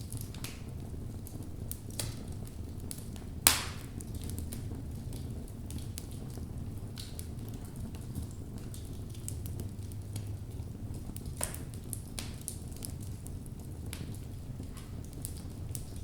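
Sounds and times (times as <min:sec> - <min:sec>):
fire flames burning: 0:00.0 - 0:16.0
wood crackling and popping: 0:00.0 - 0:16.0.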